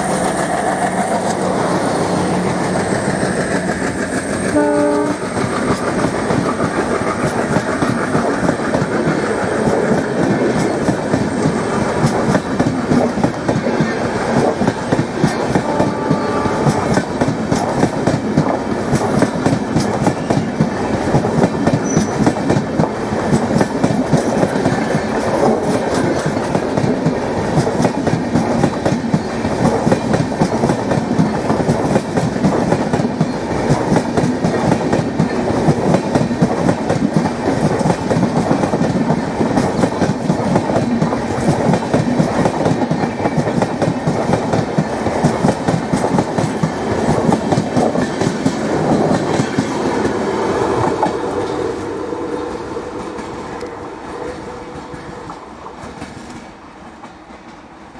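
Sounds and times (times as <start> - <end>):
train rumbling past: 0.0 - 57.9.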